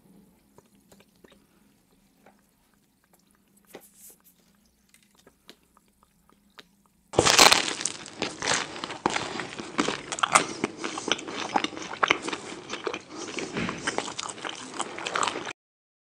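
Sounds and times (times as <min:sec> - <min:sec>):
chewing: 0:00.1 - 0:15.6
crunchy biting into food: 0:00.4 - 0:15.5.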